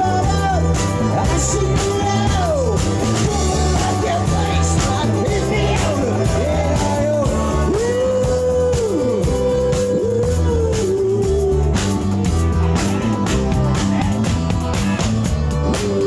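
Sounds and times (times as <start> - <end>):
bending lead guitar notes: 0.0 - 16.0
drum kit: 0.0 - 16.0
electric guitar: 0.0 - 16.0.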